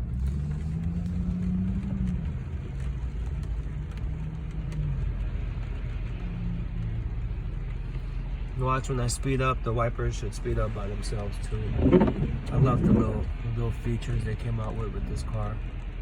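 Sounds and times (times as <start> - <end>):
car engine hum: 0.0 - 16.0
tyres hissing on wet road: 0.0 - 16.0.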